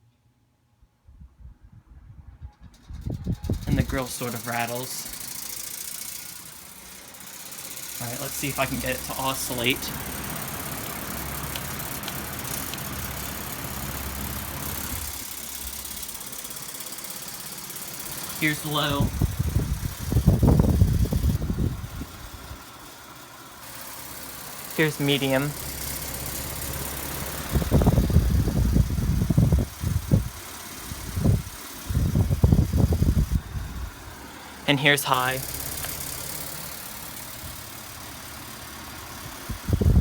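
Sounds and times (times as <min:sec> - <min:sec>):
air rushing from fan blades: 0:01.4 - 0:40.0
fan motor hum: 0:02.0 - 0:40.0.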